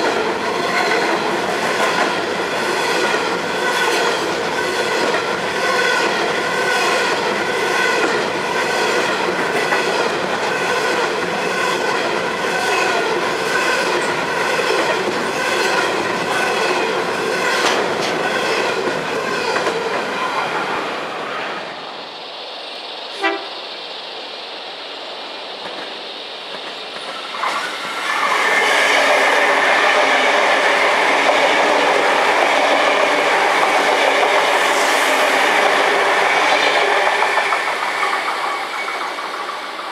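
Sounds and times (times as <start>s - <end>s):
train wheels clattering over rail joints: 0.0s - 20.1s, 25.6s - 39.9s
diesel railcar passing loudly: 0.0s - 39.9s.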